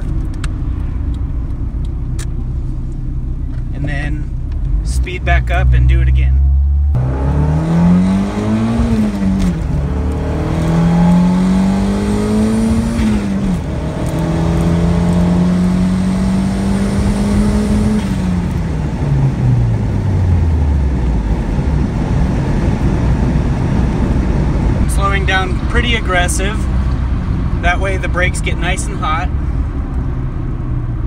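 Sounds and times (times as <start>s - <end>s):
car engine accelerating: 0.0s - 31.0s
road and tyre rumble: 0.0s - 31.0s.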